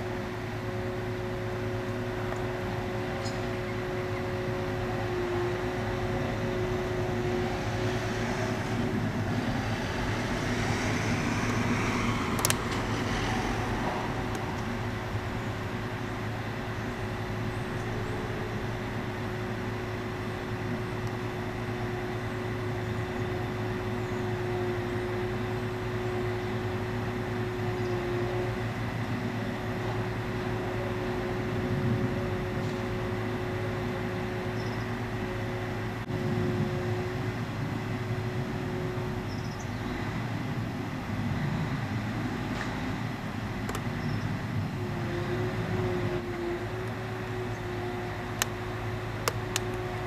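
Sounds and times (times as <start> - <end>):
crane engine and hydraulics drone: 0.0 - 50.0.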